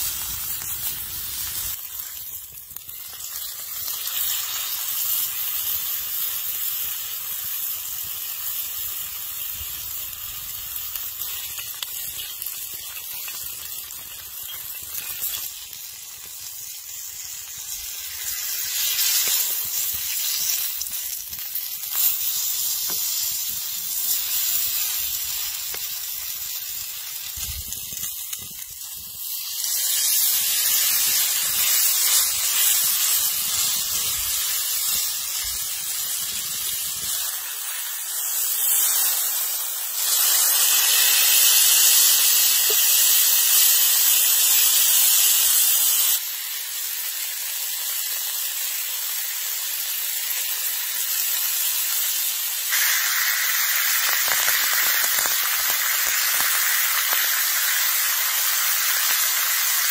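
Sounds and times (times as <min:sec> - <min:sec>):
steak sizzling on griddle: 0:00.0 - 0:59.9.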